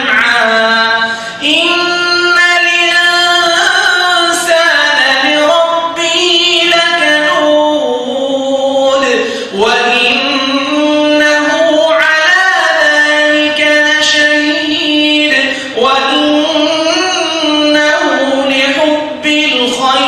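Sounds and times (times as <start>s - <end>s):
man reciting melodically: 0.0s - 20.0s.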